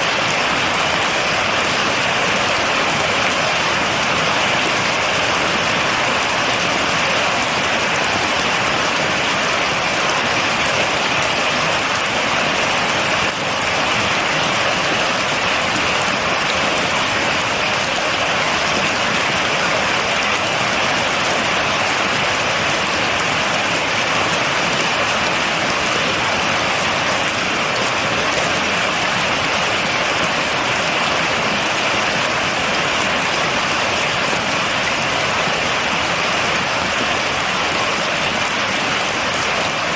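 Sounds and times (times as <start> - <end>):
raindrops crackling on a surface: 0.0 - 39.9
steady rain hissing: 0.0 - 39.9.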